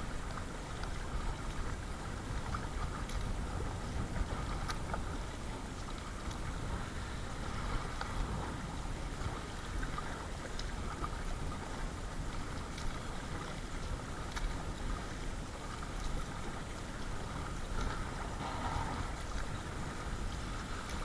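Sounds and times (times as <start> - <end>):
low wind rumble: 0.0 - 21.0
small splashes and drips: 0.0 - 21.0
water splashing around kayak: 0.0 - 21.0.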